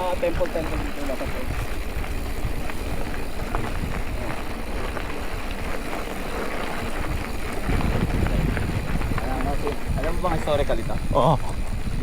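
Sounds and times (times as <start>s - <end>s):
bike tyres rolling over trail: 0.0s - 12.0s
wind on microphone: 0.0s - 12.0s.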